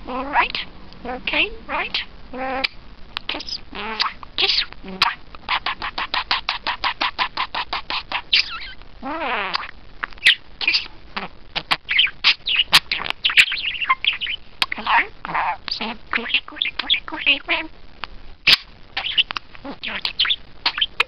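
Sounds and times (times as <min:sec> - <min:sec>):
budgerigar chirping: 0:00.1 - 0:17.7, 0:18.5 - 0:21.0
budgerigar warbling call: 0:00.1 - 0:17.7, 0:18.5 - 0:21.0.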